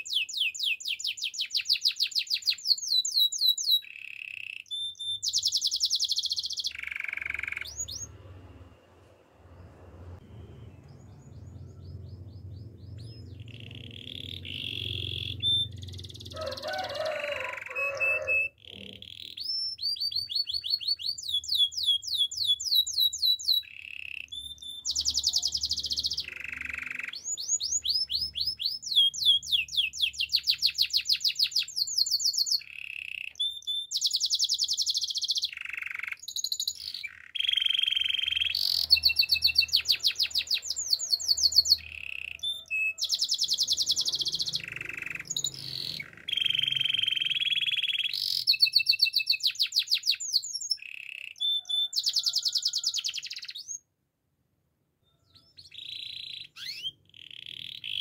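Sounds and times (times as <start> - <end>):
canary singing trills: 0.0 - 8.6, 9.5 - 53.9, 55.0 - 58.0.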